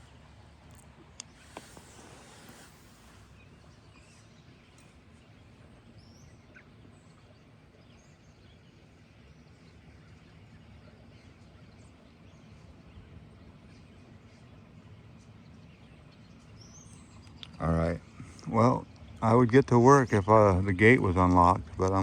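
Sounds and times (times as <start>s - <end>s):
faint bird calls: 0.0s - 22.0s
low background rumble: 0.0s - 22.0s.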